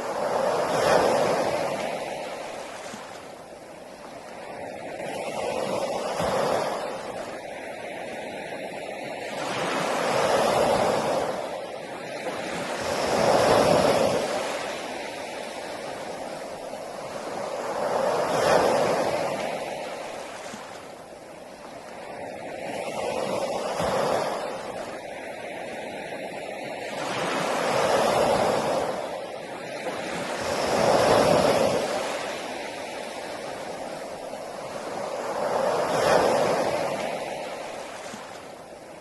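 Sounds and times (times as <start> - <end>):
sea waves breaking on a beach: 0.0 - 39.0.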